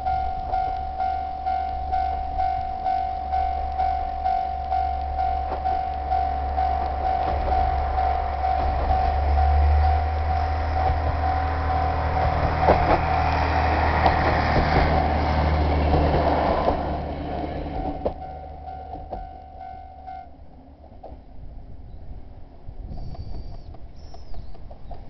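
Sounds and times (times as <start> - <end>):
crossing warning bell ringing: 0.0 - 20.5
wheels clicking over rail joints: 0.0 - 21.3
diesel railcar engine rumble: 0.0 - 25.0.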